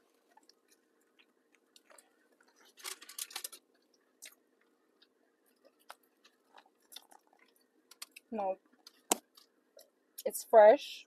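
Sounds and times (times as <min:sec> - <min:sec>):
chewing with soft crunches: 0:00.0 - 0:10.2.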